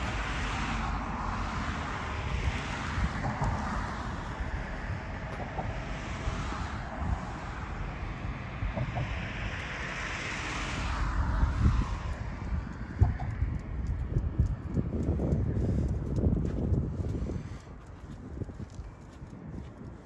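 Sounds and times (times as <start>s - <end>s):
distant city noise: 0.0s - 20.0s
wind buffeting microphone: 0.0s - 20.0s.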